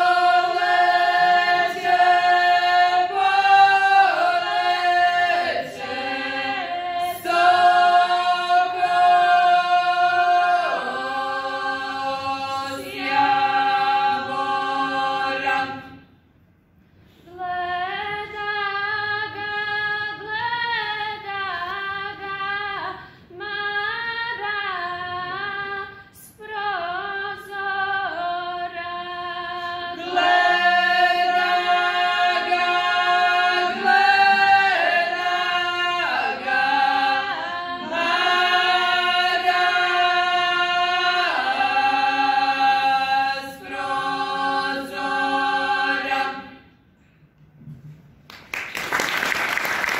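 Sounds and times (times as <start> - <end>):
women singing a cappella: 0.0 - 16.2, 17.1 - 46.9.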